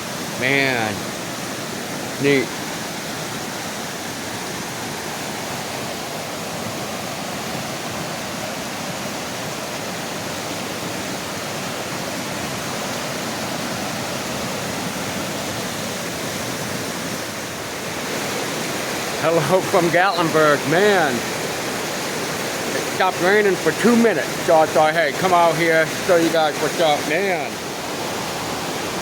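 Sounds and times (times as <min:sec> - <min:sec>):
creek rushing over rocks: 0:00.0 - 0:29.0.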